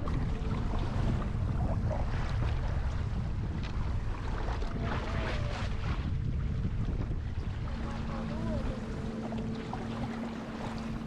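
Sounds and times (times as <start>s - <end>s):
water noise: 0.0s - 11.0s
wind rumble on microphone: 0.0s - 11.0s.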